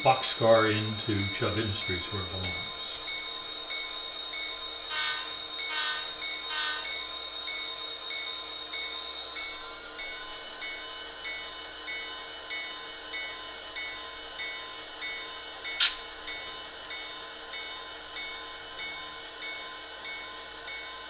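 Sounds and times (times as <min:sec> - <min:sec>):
locomotive bell ringing: 0:00.0 - 0:21.0.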